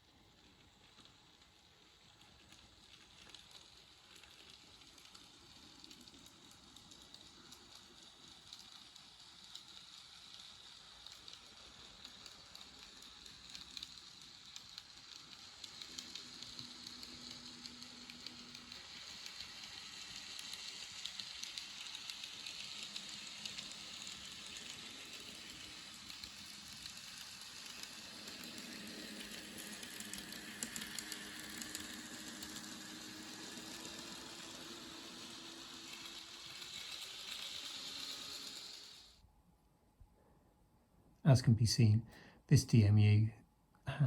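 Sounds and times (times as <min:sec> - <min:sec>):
model train motor whirring: 0:00.0 - 0:39.2.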